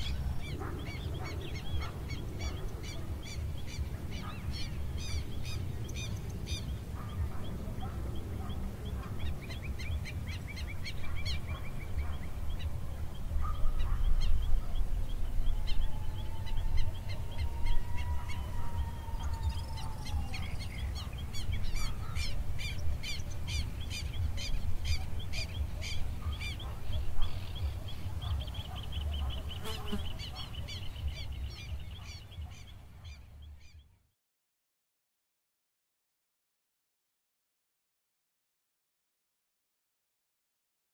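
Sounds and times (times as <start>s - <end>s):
birds chirping and trilling: 0.0s - 34.1s.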